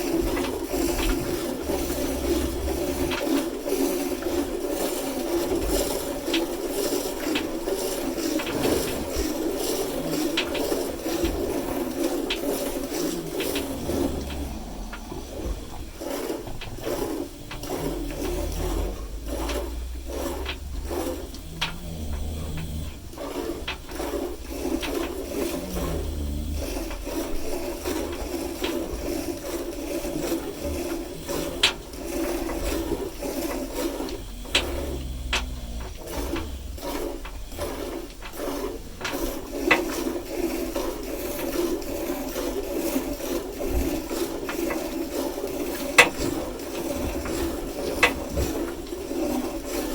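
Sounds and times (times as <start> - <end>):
cow snoring: 0.0 - 49.9.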